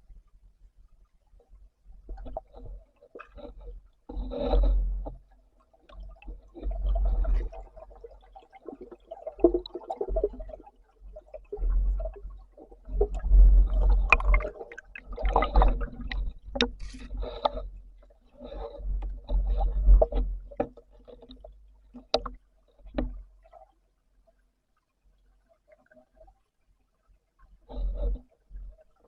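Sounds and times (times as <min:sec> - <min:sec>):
muffled underwater sloshing: 0:00.0 - 0:29.0.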